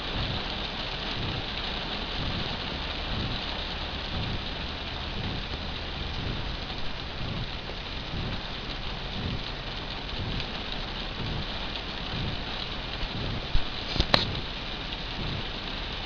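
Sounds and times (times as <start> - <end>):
hard rain falling: 0.0 - 16.0
low rumbling thumps: 0.0 - 16.0.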